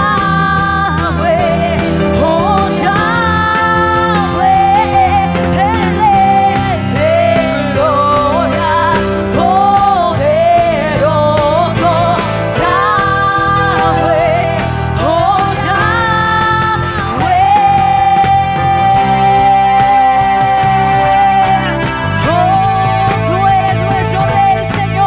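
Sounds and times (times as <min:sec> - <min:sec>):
amplified instrumental accompaniment: 0:00.0 - 0:25.0
woman singing into a microphone: 0:00.0 - 0:25.0.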